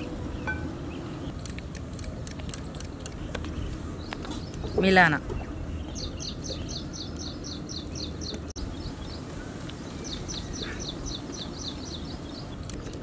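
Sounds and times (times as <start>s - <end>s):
small bird calling: 2.5s - 13.0s.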